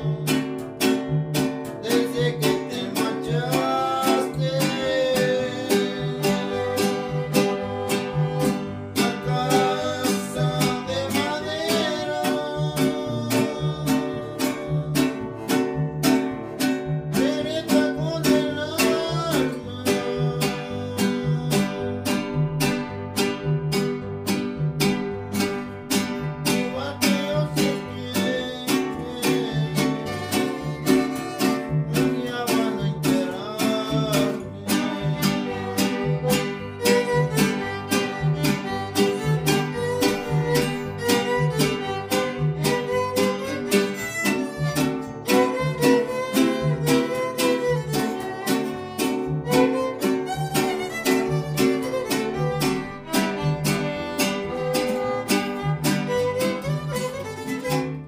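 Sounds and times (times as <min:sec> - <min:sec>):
strummed guitars: 0:00.0 - 0:58.0
violin melody: 0:00.0 - 0:58.0.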